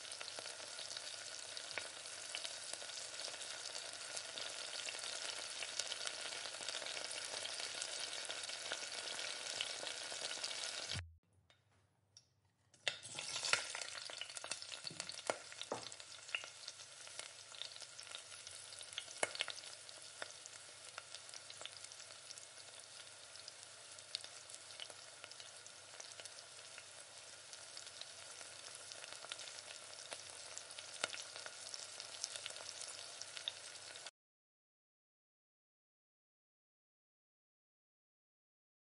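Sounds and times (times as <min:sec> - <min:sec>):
sauce sizzling and bubbling in pan: 0:00.0 - 0:11.0, 0:12.8 - 0:34.1.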